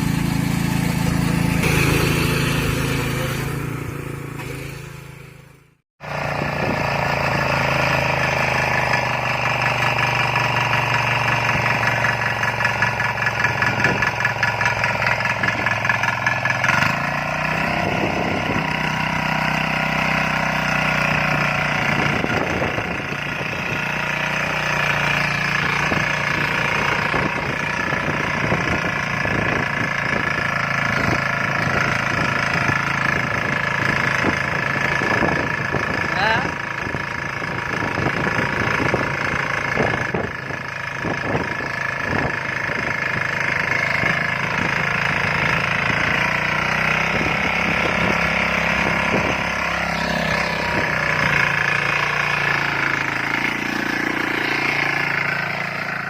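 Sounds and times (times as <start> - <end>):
small petrol engine running: 0.0 - 56.0.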